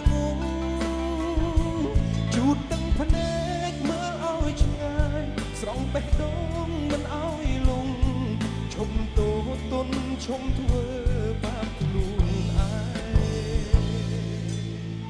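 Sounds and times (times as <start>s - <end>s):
drum kit beat with cymbals: 0.0s - 15.0s
live pop band playing: 0.0s - 15.0s
person singing melody: 0.0s - 15.0s.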